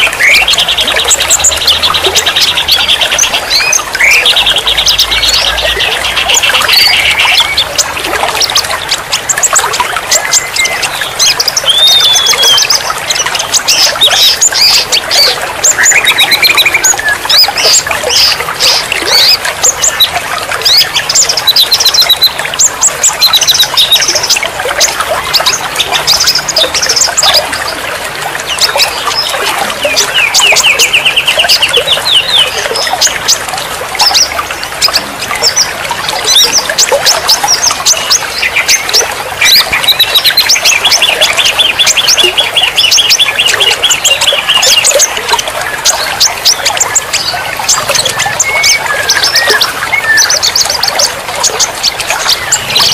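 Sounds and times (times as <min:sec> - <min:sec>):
songbirds chirping and trilling: 0:00.0 - 0:52.9.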